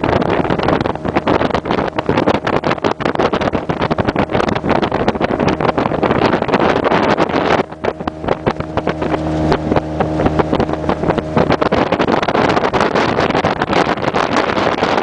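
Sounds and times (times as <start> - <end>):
motorboat engine running: 0.0 - 15.0
wind rush on microphone: 0.0 - 15.0.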